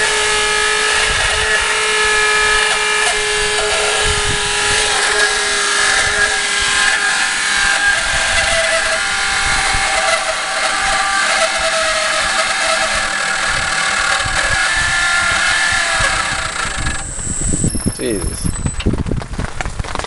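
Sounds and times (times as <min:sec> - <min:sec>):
water pump whining: 0:00.0 - 0:20.0.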